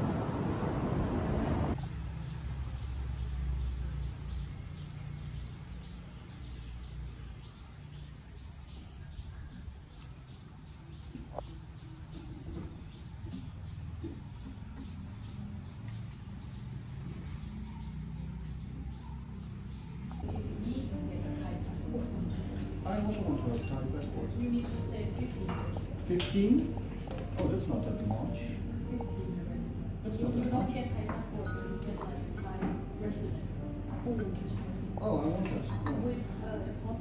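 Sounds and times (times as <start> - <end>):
insects singing: 1.8 - 37.0.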